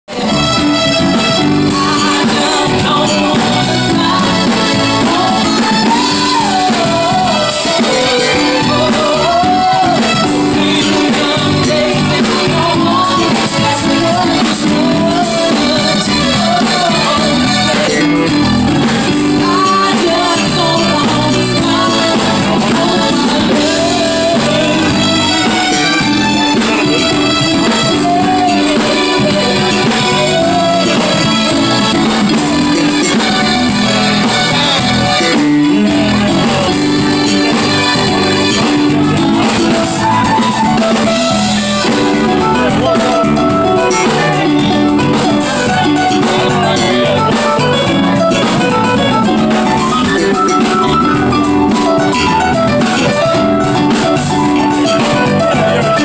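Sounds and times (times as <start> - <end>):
keyboard: 0.0 - 56.0
live band playing: 0.0 - 56.0
steady drum beat: 0.1 - 56.0
woman singing into a microphone: 0.1 - 56.0.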